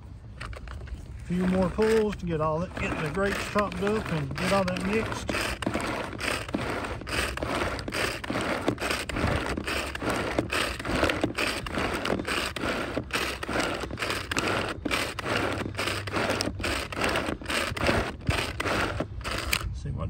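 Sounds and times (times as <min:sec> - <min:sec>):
pull-cord chopper whirring: 0:00.4 - 0:19.7.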